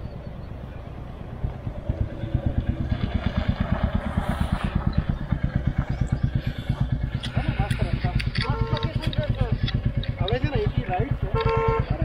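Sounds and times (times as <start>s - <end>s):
motorcycle engine thumping: 1.3s - 12.0s.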